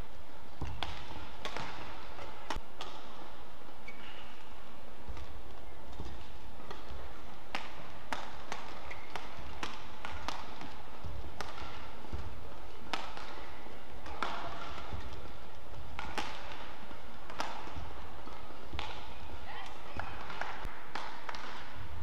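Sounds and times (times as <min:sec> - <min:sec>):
rackets striking shuttlecock: 0:00.6 - 0:21.9.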